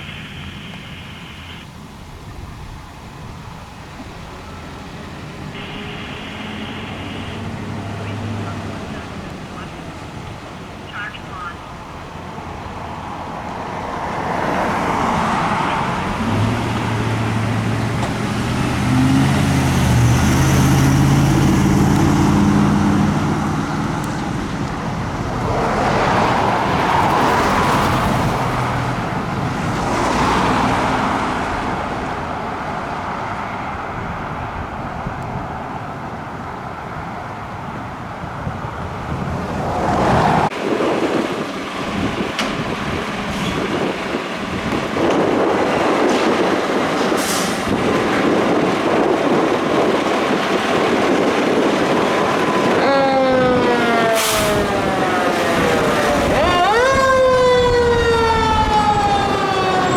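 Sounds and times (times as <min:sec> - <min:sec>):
heavy vehicle engine droning: 0:00.0 - 0:59.9
road traffic passing: 0:00.0 - 0:59.9.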